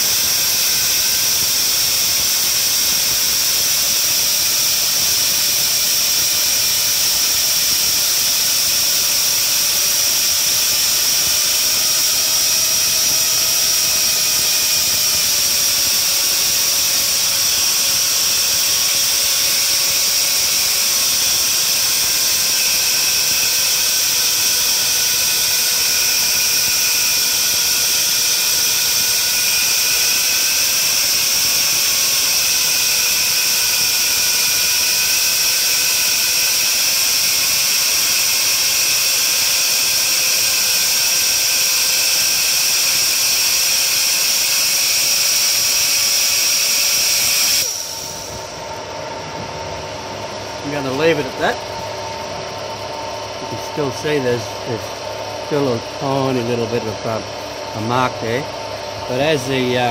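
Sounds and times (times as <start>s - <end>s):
die grinder whining: 0.0s - 59.9s.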